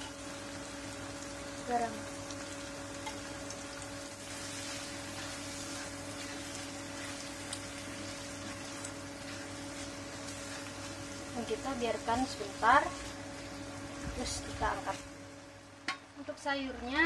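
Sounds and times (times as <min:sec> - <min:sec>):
food sizzling in oil: 0:00.0 - 0:17.0
steady hum: 0:00.0 - 0:17.0.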